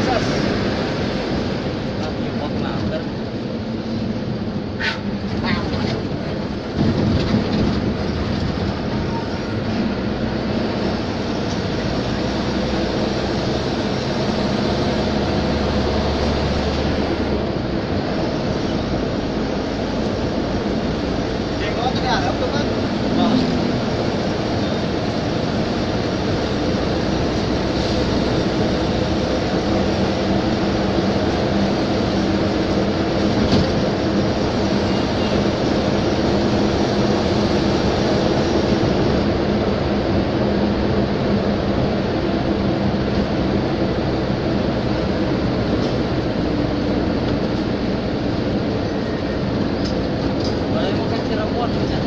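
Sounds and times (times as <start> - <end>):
vehicle driving on highway: 0.0 - 52.0.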